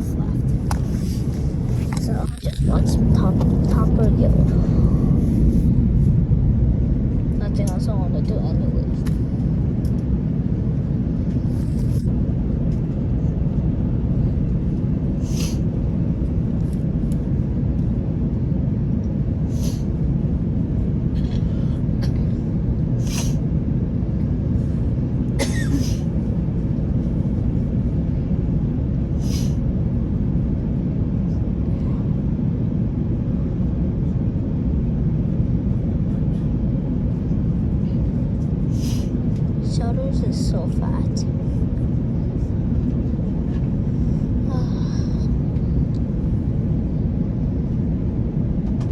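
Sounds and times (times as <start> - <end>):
airliner cabin roar: 0.0 - 48.9.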